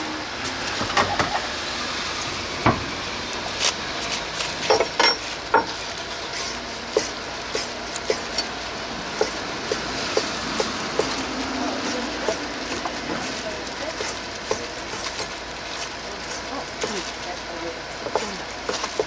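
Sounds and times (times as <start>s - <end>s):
steady kitchen hiss: 0.0s - 19.0s.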